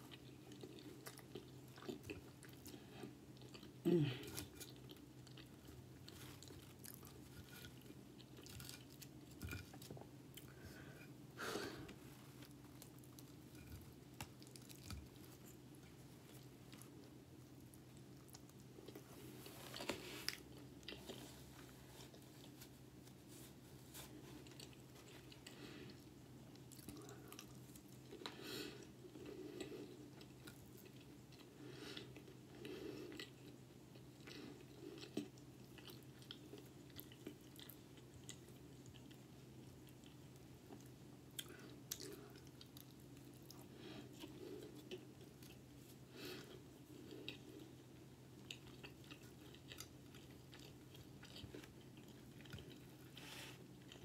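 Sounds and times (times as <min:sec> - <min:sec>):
person chewing: 0:00.1 - 0:11.1, 0:11.8 - 0:54.0.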